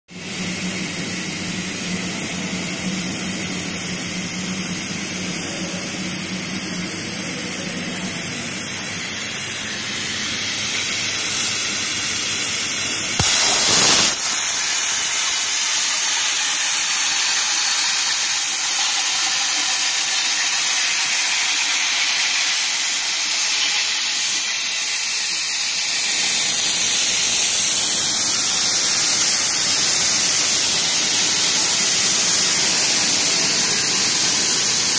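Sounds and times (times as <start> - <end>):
plasma torch hissing: 0.2 - 34.9.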